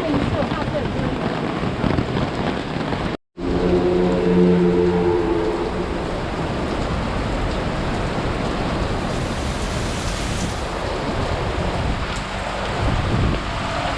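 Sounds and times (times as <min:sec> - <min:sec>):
wind and rain rushing: 0:00.0 - 0:13.9
wind buffeting microphone: 0:00.0 - 0:13.9.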